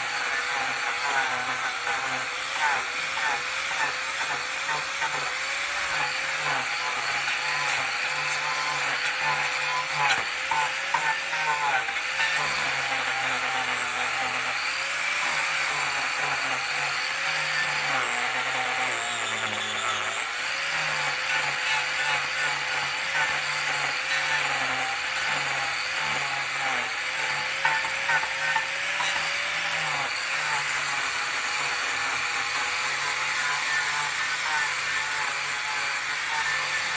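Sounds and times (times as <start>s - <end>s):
angle grinder grinding wood: 0.0s - 36.9s.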